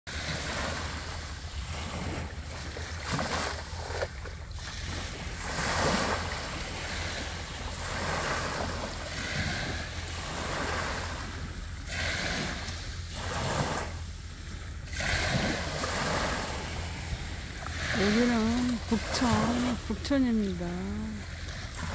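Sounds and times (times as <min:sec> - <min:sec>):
waves breaking on beach: 0:00.1 - 0:21.9
wind rumble on microphone: 0:00.1 - 0:21.9.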